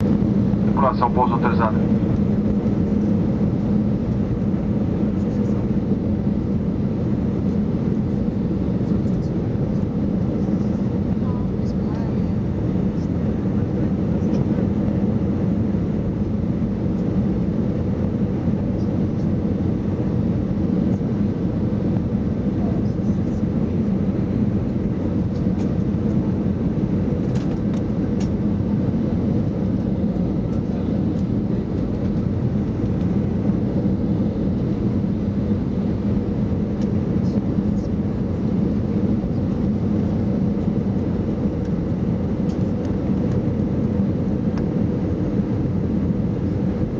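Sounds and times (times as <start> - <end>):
jet airliner engines droning: 0.0 - 46.9.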